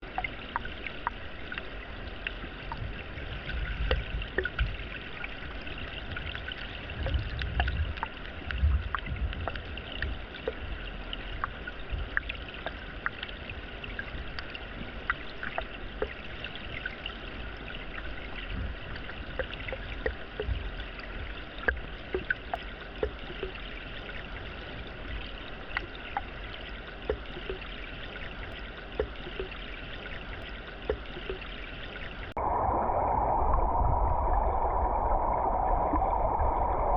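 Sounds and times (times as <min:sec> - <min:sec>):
water trickling: 0:00.0 - 0:32.6.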